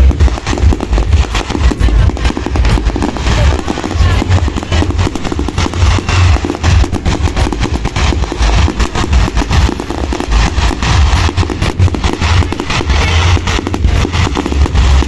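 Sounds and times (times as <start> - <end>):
fireworks bangs and crackles: 0.0 - 15.0
heavy low rumble: 0.0 - 15.0.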